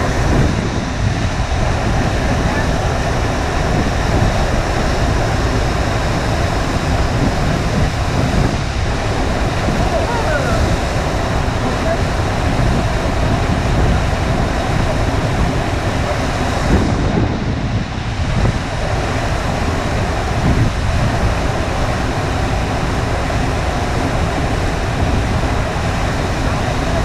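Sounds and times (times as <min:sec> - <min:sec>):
water rushing up a ramp: 0:00.0 - 0:27.0
wind rumbling on microphone: 0:00.0 - 0:27.0.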